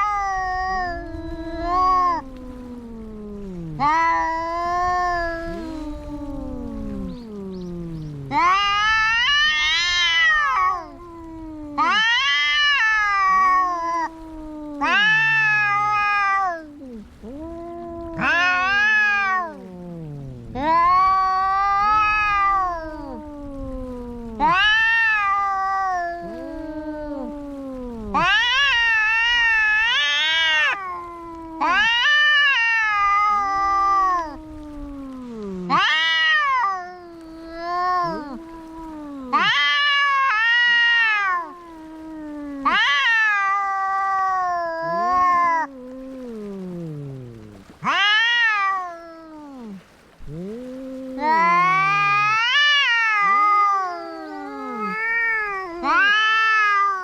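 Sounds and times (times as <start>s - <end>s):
cats yowling: 0.0s - 57.0s
low moaning cat calls: 0.0s - 57.0s.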